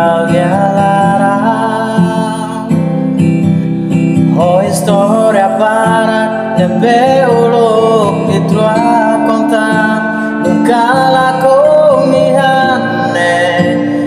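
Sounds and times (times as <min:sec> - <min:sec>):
man singing: 0:00.0 - 0:03.2, 0:04.2 - 0:14.0
guitar accompaniment: 0:00.0 - 0:14.0.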